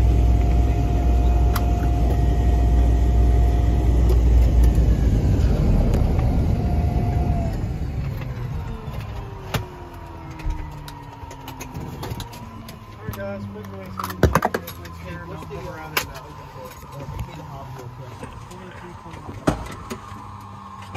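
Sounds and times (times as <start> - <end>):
engine winding down: 0.0 - 20.9
turboprop engine idling: 0.0 - 20.9.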